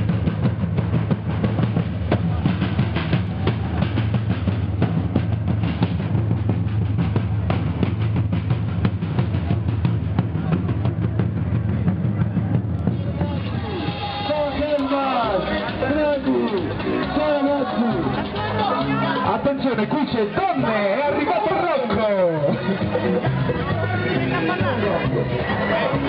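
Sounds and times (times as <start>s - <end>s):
marching snare and bass drums: 0.0s - 26.0s.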